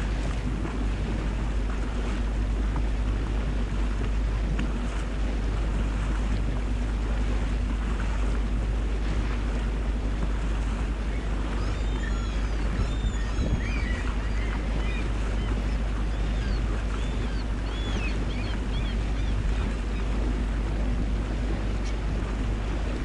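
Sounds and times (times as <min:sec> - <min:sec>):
boat motor running: 0:00.0 - 0:23.0
water rushing along hull: 0:00.0 - 0:23.0
wind buffeting microphone: 0:00.0 - 0:23.0.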